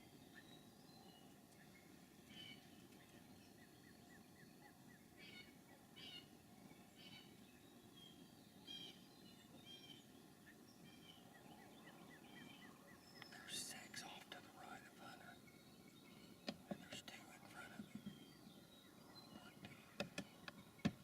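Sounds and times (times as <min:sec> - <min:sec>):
bird chirps: 0:00.0 - 0:21.0
low hiss: 0:00.0 - 0:21.0.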